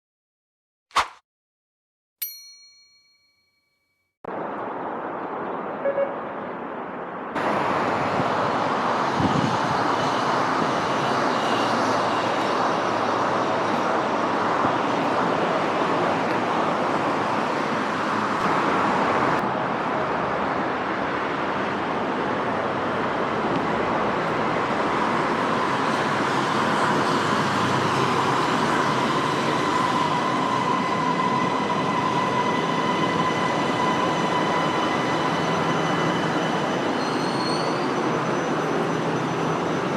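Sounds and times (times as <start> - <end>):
train wheel and running noise: 7.4 - 39.9.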